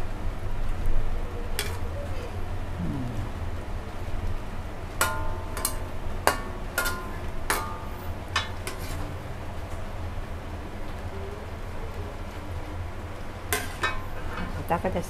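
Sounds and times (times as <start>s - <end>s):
steady low hum: 2.3s - 15.0s.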